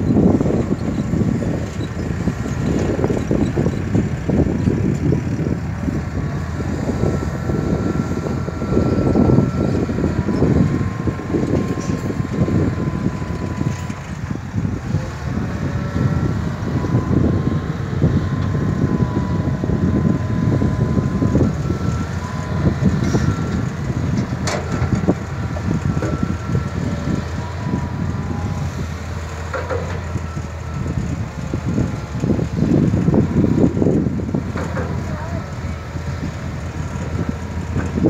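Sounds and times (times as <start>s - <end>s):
excavator diesel engine rumbling: 0.0s - 38.0s.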